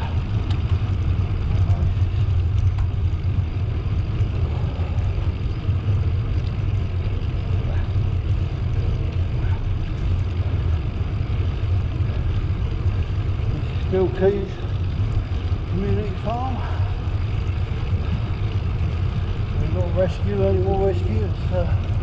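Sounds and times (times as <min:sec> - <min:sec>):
bicycle tyres rolling: 0:00.0 - 0:22.0
faint ticks: 0:00.0 - 0:22.0
wind rushing over microphone: 0:00.0 - 0:22.0.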